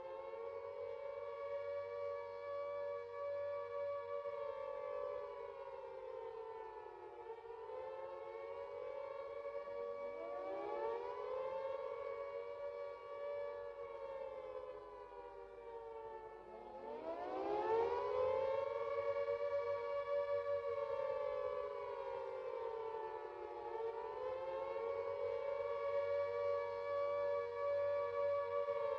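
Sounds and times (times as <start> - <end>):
siren wailing: 0.0 - 28.9.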